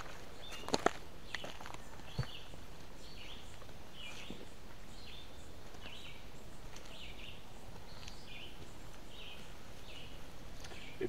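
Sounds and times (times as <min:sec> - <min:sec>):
background hiss: 0:00.0 - 0:11.0
bird chirping: 0:00.0 - 0:11.0.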